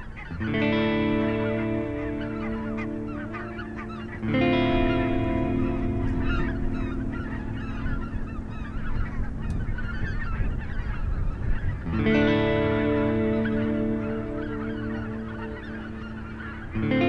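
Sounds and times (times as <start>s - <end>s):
geese honking: 0.0s - 17.0s
sustained musical chord: 0.3s - 11.2s, 11.8s - 17.0s.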